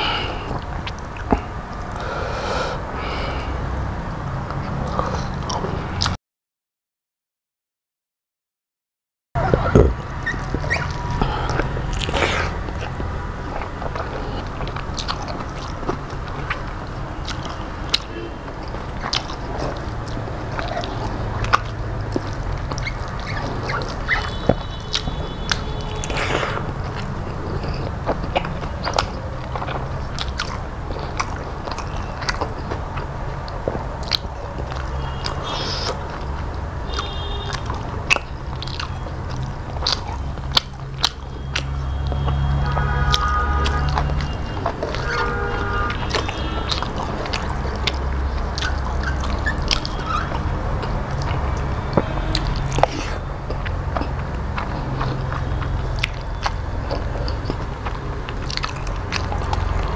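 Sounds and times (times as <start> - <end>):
chewing and wet mouth clicks: 0.4 - 2.0, 4.5 - 6.2, 9.6 - 59.9.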